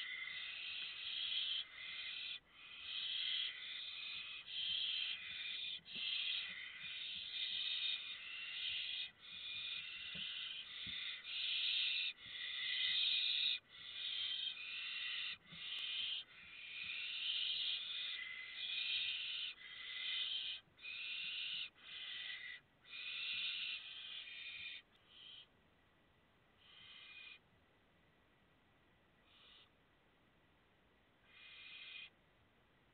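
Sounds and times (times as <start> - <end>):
owl chicks hissing begging calls: 0.0 - 25.5, 26.6 - 27.4, 29.2 - 29.7, 31.3 - 32.1.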